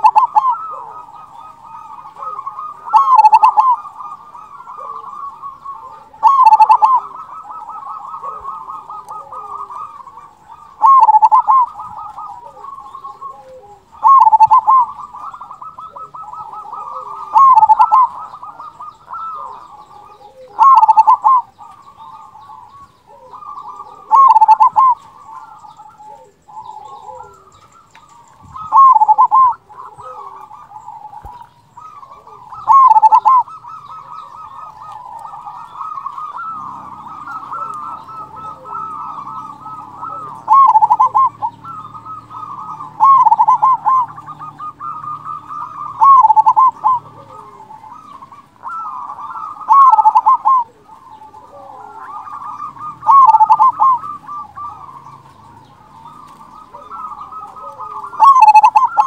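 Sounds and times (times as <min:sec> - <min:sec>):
dove cooing song: 0:00.0 - 0:59.0.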